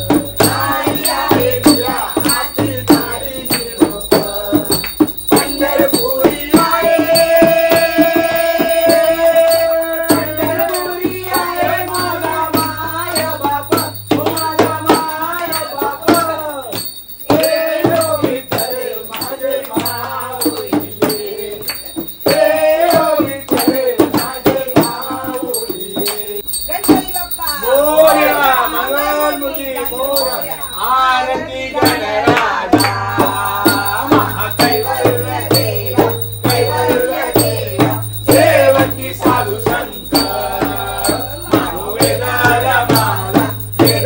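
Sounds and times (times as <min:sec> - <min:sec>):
clapped jingling beat: 0:00.0 - 0:44.0
person singing devotional song: 0:00.0 - 0:44.0.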